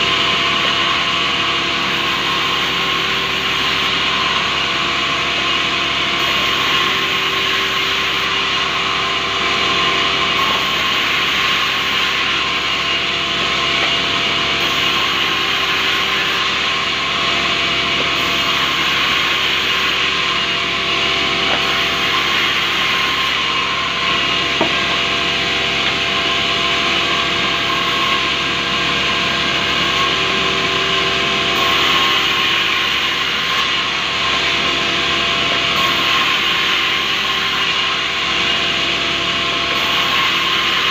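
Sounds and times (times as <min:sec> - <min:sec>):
band saw cutting wood: 0:00.0 - 0:40.9
steady machine hum: 0:00.0 - 0:40.9.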